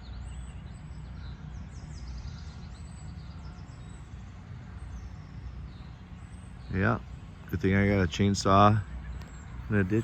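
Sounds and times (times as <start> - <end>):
songbirds chirping and trilling: 0.0 - 10.0.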